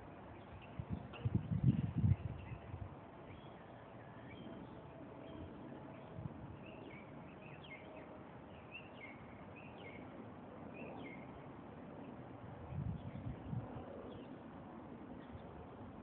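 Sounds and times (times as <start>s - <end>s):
low outdoor hum: 0.0s - 16.0s.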